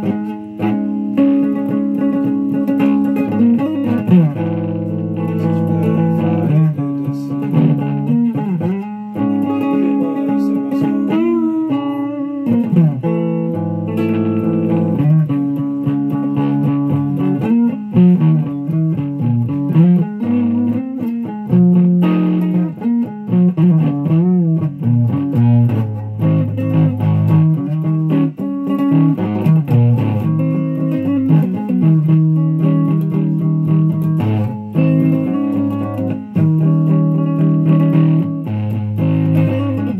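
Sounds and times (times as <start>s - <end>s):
fuzz electric guitar with bends: 0.0s - 39.9s.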